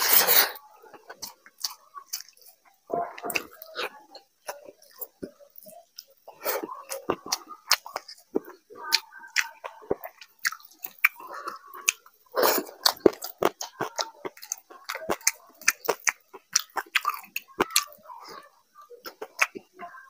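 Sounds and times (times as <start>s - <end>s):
wet chewing and lip-smacking: 0.9s - 20.0s.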